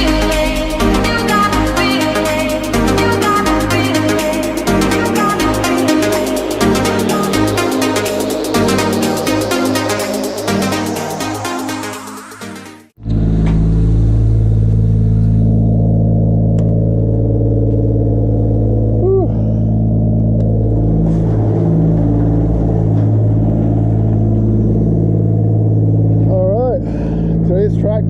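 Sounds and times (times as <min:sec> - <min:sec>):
car engine running steadily: 0:00.0 - 0:10.4, 0:13.0 - 0:28.0
rising and falling pitched sound: 0:00.0 - 0:28.0.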